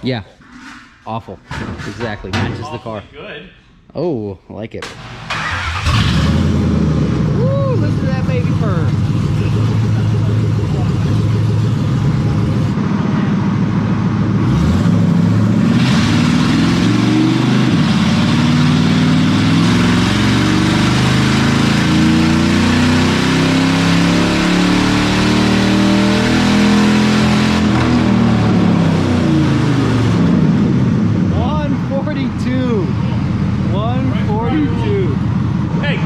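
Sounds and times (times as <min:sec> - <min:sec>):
car engine revving: 0:04.8 - 0:36.0.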